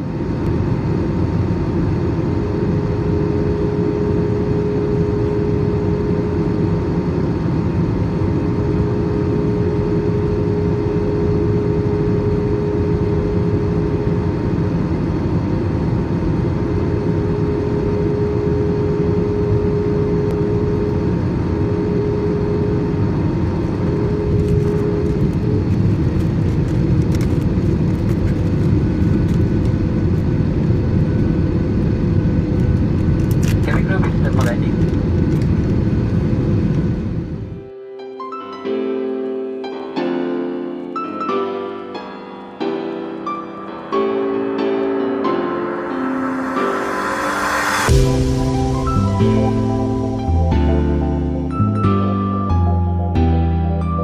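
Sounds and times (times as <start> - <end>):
airplane engines and airflow rumble: 0.0 - 37.9, 42.7 - 53.4
steady hum tone: 0.0 - 38.2, 42.6 - 53.3.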